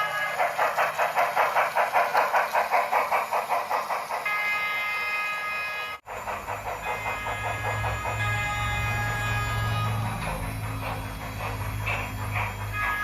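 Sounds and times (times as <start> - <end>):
steam locomotive exhaust chuffs: 0.0 - 13.0.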